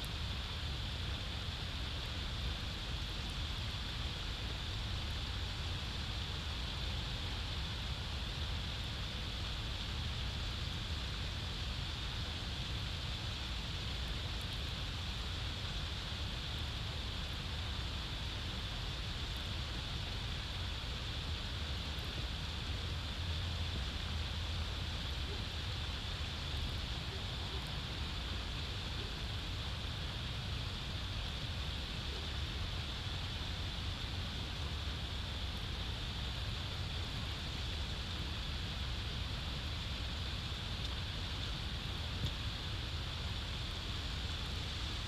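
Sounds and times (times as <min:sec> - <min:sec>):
even hiss: 0:00.0 - 0:45.0.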